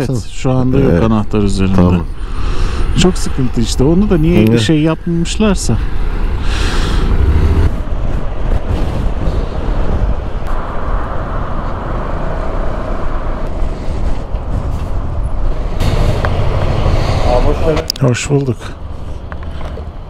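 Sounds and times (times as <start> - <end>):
road traffic rumble: 0.0 - 20.0
vehicle passing: 1.1 - 20.0.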